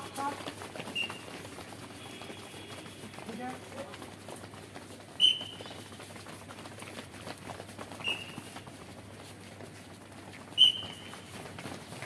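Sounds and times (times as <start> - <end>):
footsteps shuffling on pavement: 0.0 - 12.0.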